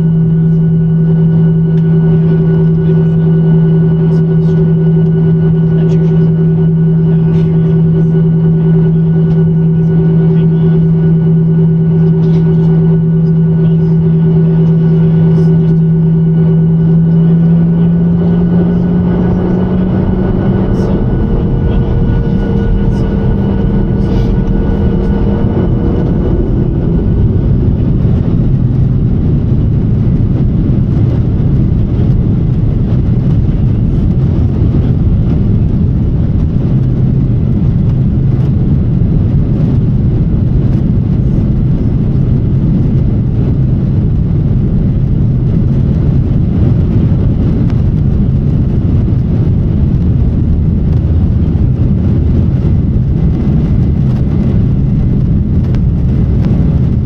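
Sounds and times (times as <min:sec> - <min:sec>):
broad engine rumble: 0:00.0 - 0:57.0
jet engines humming: 0:00.0 - 0:57.0.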